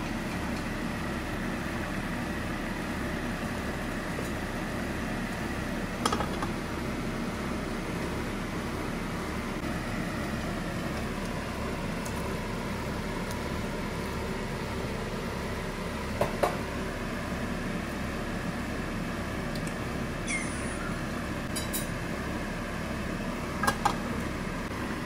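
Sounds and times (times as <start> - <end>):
kitchen fan humming: 0.0 - 25.0.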